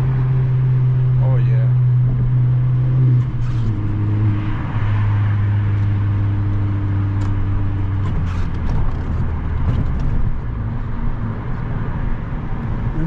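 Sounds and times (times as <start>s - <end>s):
car engine drone from cabin: 0.0s - 13.0s.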